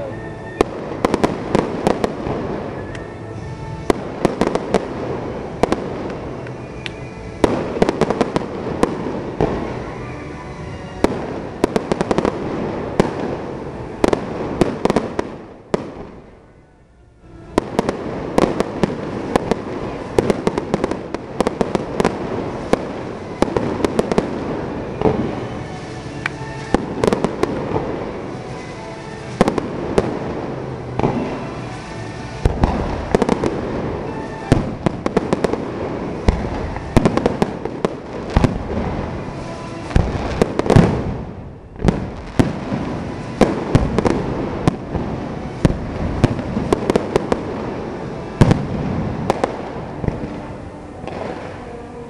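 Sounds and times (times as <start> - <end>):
firework crackle: 0.0 - 16.6, 17.3 - 52.0.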